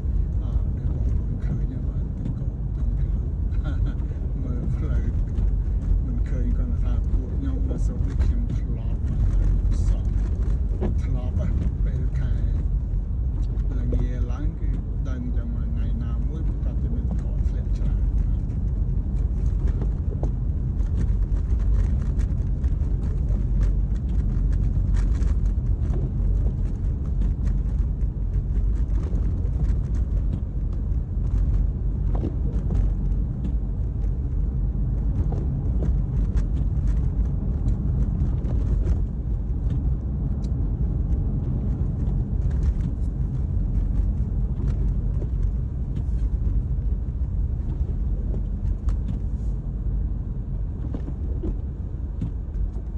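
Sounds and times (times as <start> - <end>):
tyre and engine rumble in car: 0.0 - 52.9.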